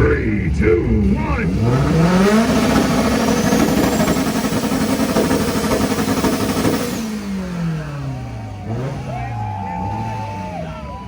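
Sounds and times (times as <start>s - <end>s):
car engine crackling and popping: 0.0s - 11.0s.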